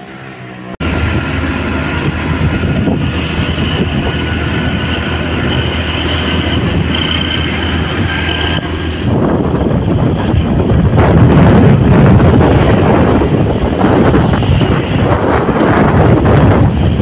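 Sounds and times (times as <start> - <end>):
motorcycle engine drone: 0.0 - 17.0
road noise: 0.0 - 17.0
wind buffeting microphone: 0.8 - 17.0.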